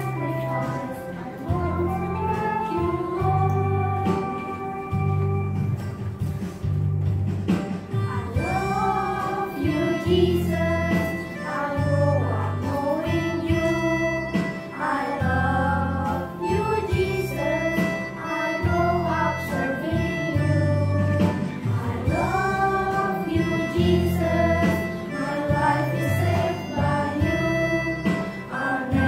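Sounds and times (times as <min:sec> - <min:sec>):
children's choir singing: 0:00.0 - 0:05.4, 0:08.0 - 0:29.0
instrumental accompaniment with bass: 0:00.0 - 0:29.0.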